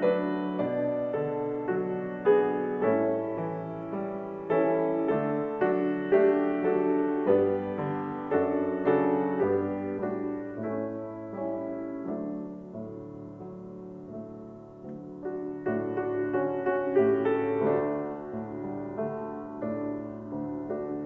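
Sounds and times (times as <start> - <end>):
slow gentle piano chords: 0.0 - 21.0.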